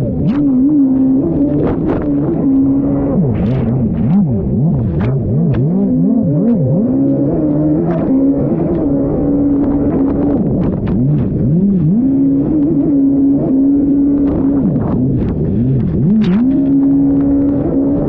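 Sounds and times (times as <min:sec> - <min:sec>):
jet ski engine at high revs: 0:00.0 - 0:18.0
wind noise: 0:00.0 - 0:18.0.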